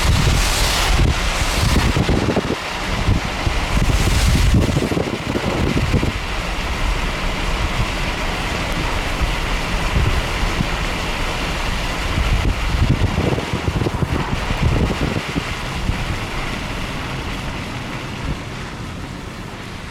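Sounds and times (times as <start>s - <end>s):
car tyres on wet road: 0.0s - 19.9s.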